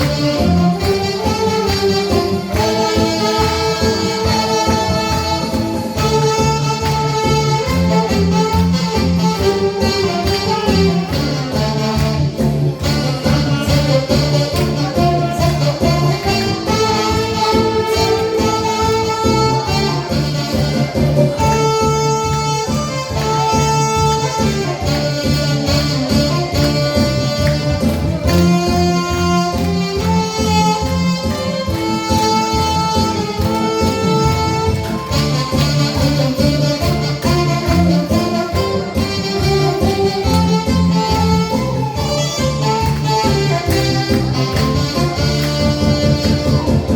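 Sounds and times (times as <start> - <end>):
pulsing bass beat: 0.0 - 46.9
saxophones playing melody: 0.0 - 46.9
string accompaniment: 0.0 - 46.9.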